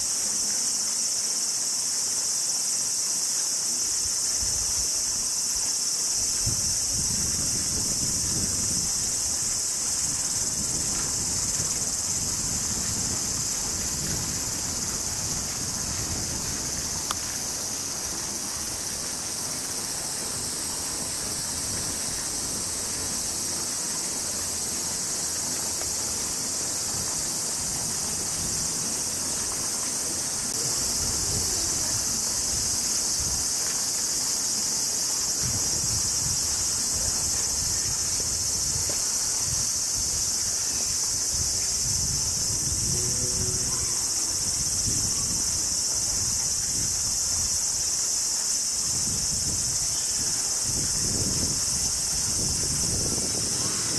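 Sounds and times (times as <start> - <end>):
cicadas chorus: 0.0 - 53.9.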